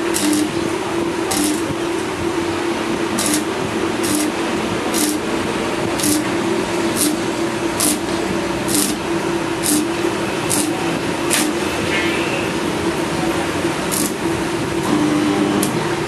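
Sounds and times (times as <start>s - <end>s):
welding arc crackling and sizzling: 0.0s - 16.0s.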